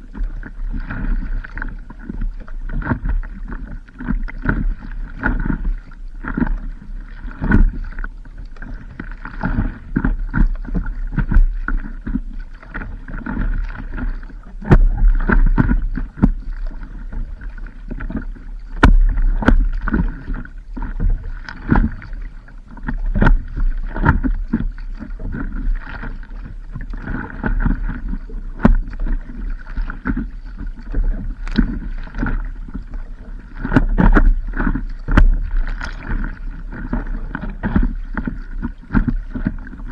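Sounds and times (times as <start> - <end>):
water splashing against paddleboard: 0.0 - 39.9.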